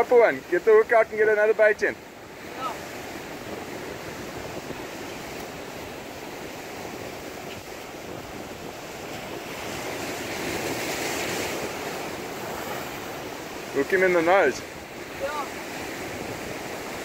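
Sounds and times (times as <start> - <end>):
ocean surf breaking over rocks: 0.0 - 17.0
wind on microphone: 2.1 - 17.0.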